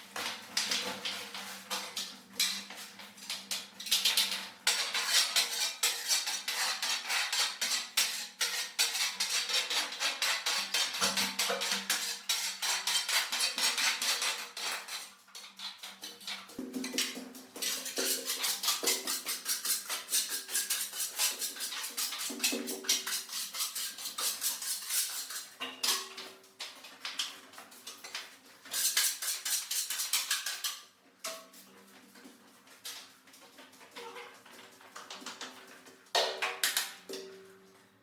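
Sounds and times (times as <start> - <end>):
scraping and clinking of hard objects: 0.3 - 32.0.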